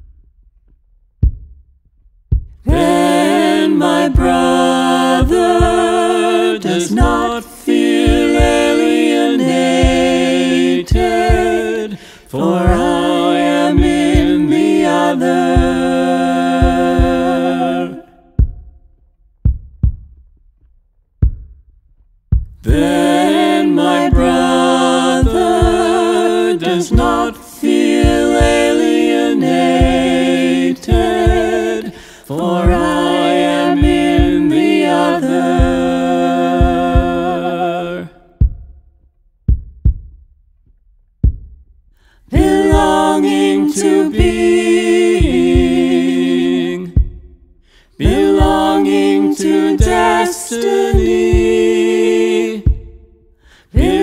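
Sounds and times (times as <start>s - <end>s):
soft low thumps: 1.2s - 3.4s, 4.1s - 6.1s, 6.9s - 13.2s, 13.8s - 16.0s, 16.6s - 20.6s, 21.2s - 24.6s, 25.2s - 26.3s, 26.9s - 28.9s, 29.7s - 32.0s, 32.6s - 34.7s, 35.3s - 40.4s, 41.1s - 46.0s, 46.8s - 51.8s, 52.6s - 54.0s
voices singing a cappella: 2.6s - 18.4s, 22.6s - 38.4s, 42.2s - 54.0s.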